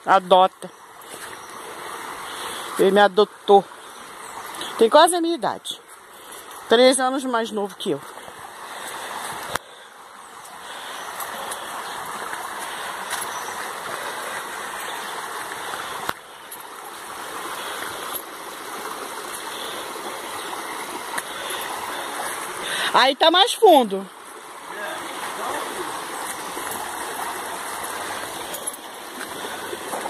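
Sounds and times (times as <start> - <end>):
river water over rocks: 0.0 - 30.0.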